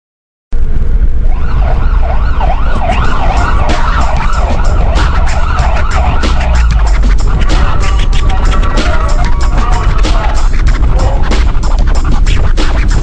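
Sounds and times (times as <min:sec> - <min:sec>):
heavy low rumble: 0:00.5 - 0:13.0
police siren wailing: 0:01.0 - 0:11.7.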